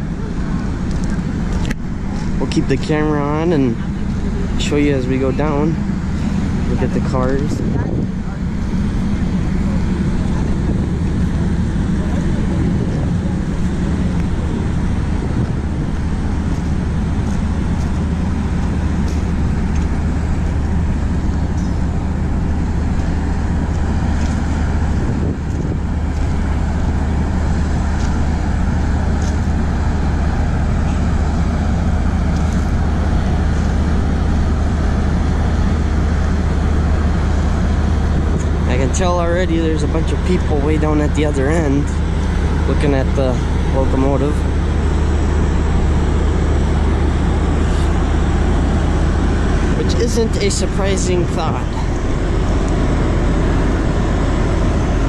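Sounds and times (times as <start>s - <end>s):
low mechanical rumble: 0.0s - 55.0s.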